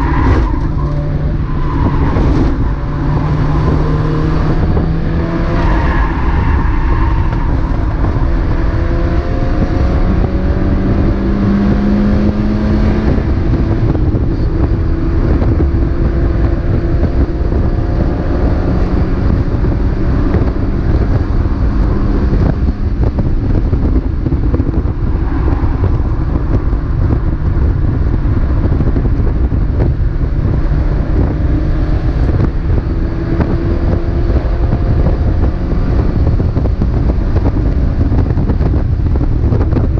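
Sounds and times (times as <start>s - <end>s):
race car engine at speed: 0.0s - 39.9s
road and wind rumble: 0.0s - 39.9s.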